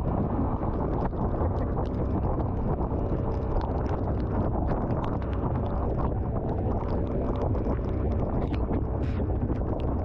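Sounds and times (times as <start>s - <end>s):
boat running through choppy sea: 0.0s - 10.0s
wind on microphone: 0.0s - 10.0s.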